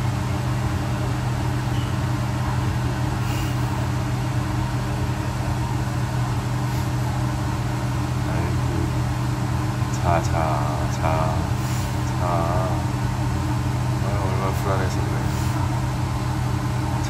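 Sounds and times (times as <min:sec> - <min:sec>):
blower humming with air rush: 0:00.0 - 0:17.0.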